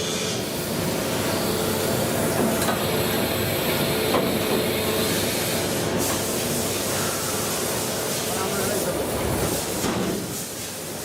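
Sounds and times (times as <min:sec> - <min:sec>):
milling machine running: 0:00.0 - 0:09.5.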